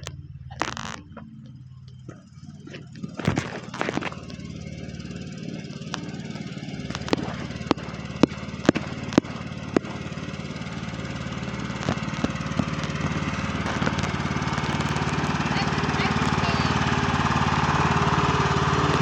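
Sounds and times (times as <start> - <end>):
riding lawn mower engine running: 0.0 - 19.0.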